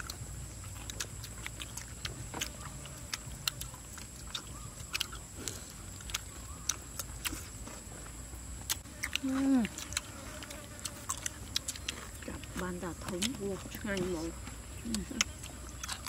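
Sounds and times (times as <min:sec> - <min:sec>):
wet chewing smacks: 0:00.0 - 0:16.0.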